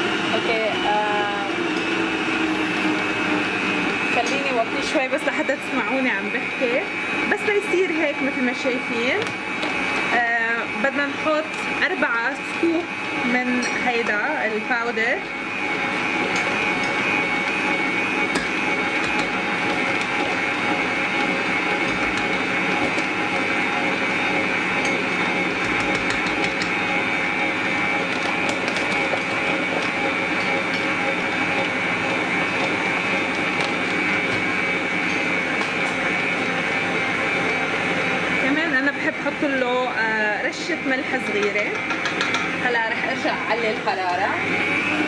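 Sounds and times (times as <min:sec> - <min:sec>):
stand mixer whisking: 0:00.0 - 0:45.0.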